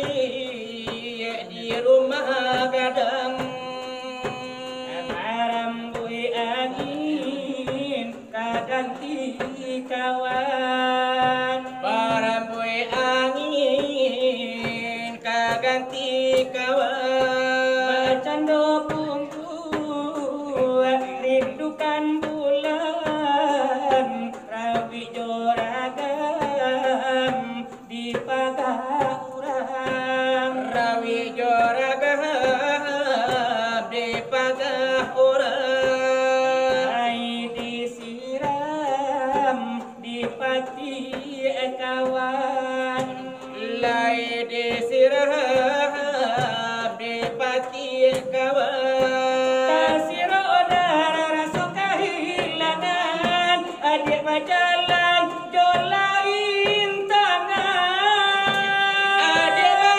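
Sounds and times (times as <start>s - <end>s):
hands beating brass trays: 0.0s - 59.9s
men singing devotional melody: 0.0s - 59.9s.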